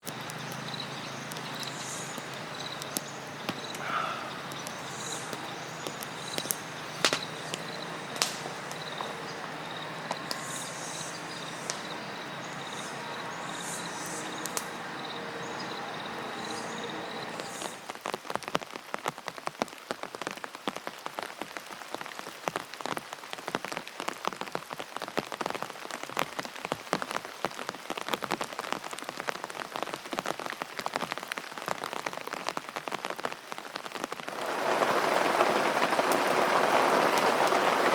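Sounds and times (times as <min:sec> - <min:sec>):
rain hissing: 0:00.0 - 0:37.9
raindrops hitting a surface: 0:00.0 - 0:37.9.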